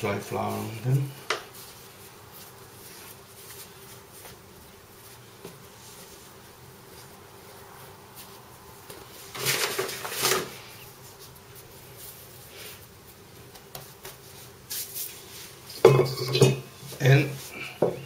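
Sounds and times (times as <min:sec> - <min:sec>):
gloved hands rustling and patting dough: 0:00.0 - 0:18.0.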